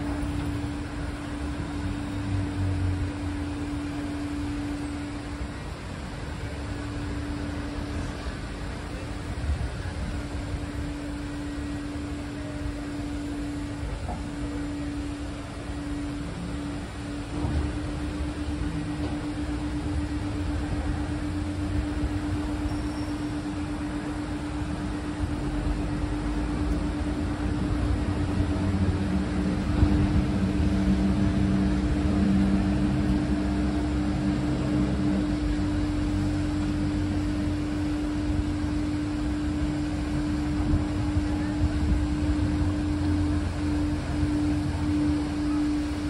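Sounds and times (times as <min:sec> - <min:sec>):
boat motor humming: 0:00.0 - 0:46.0.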